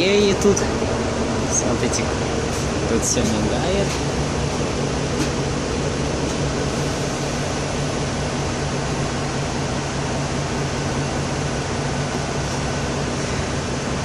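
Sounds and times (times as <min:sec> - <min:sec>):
bus engine hum: 0:00.0 - 0:14.0.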